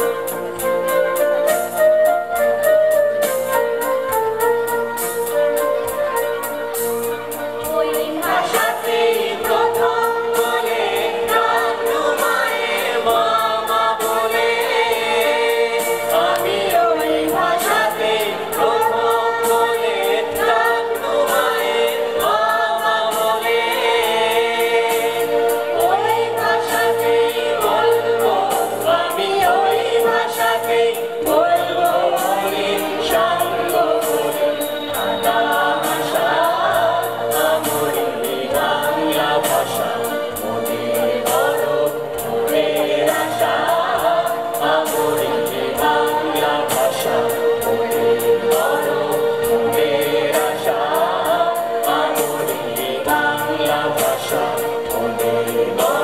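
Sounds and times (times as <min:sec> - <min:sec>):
women's choir singing: 0:07.2 - 0:56.0.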